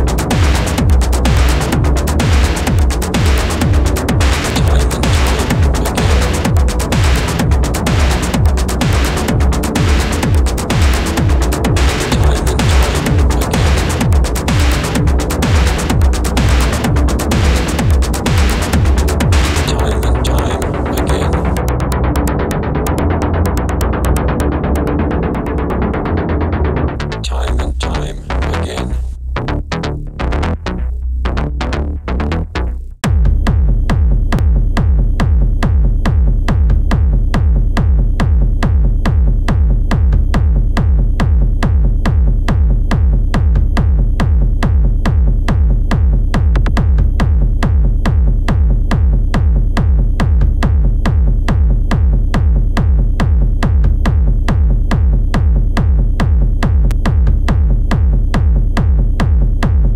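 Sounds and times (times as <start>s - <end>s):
heavy deep bass pulse: 0.0s - 59.9s
industrial techno music: 0.0s - 59.9s.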